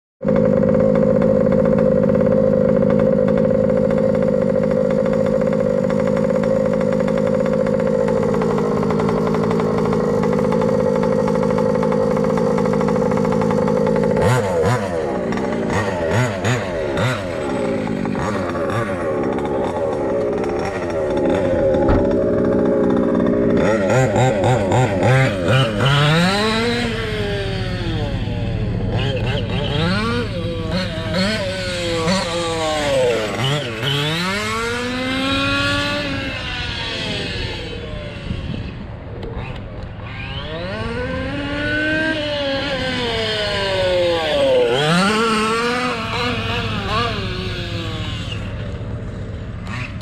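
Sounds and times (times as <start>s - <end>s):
rc car two-stroke engine revving: 0.2s - 50.0s.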